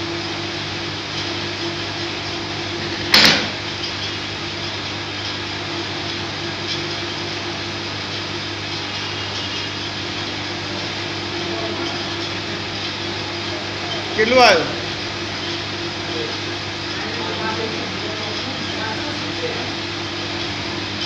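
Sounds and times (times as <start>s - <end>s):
machine electrical hum: 0.0s - 21.0s.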